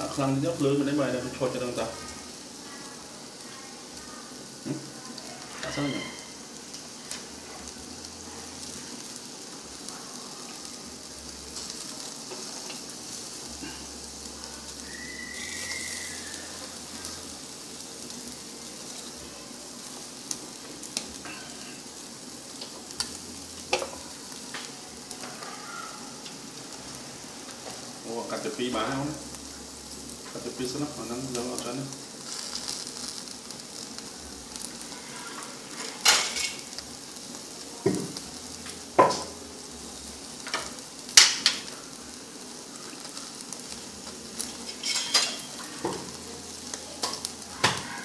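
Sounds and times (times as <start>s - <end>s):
ribs sizzling on a grill: 0.0s - 48.0s.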